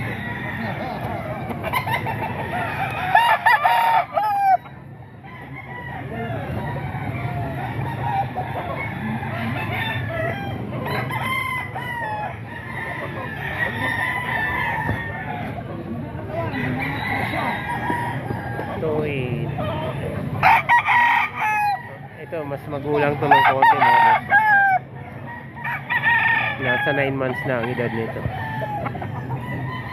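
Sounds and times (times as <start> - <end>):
roosters clucking: 0.0 - 29.9
roosters crowing: 0.0 - 29.9.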